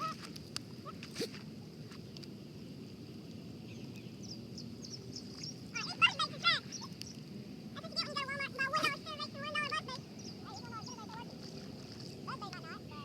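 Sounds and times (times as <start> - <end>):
quiet outdoor background: 0.0 - 13.0.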